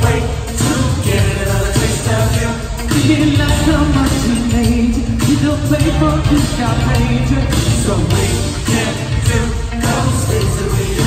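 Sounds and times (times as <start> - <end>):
live pop music with vocal: 0.0 - 11.0.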